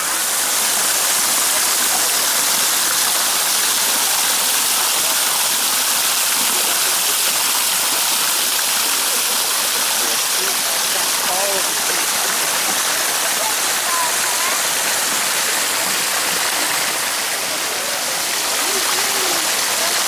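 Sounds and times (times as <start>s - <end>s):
waterfall splashing into pool: 0.0s - 20.0s.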